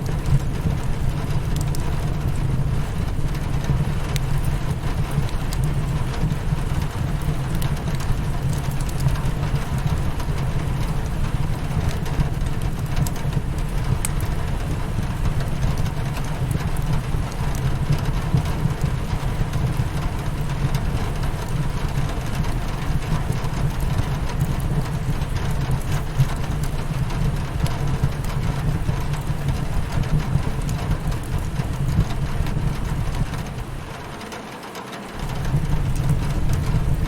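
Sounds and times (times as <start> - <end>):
heavy low rumble: 0.0 - 33.8, 35.2 - 37.0
rain pattering on a window: 0.0 - 37.0
wood fire crackling: 0.0 - 37.0.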